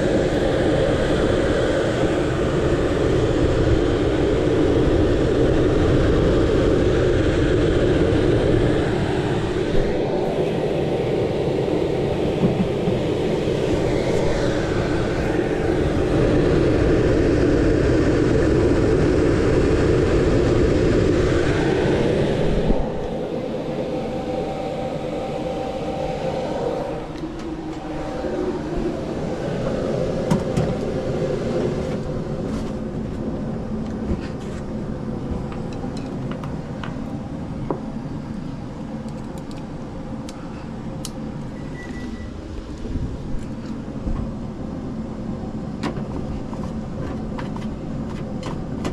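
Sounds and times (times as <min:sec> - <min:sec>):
air handler blower whirring: 0:00.0 - 0:48.9.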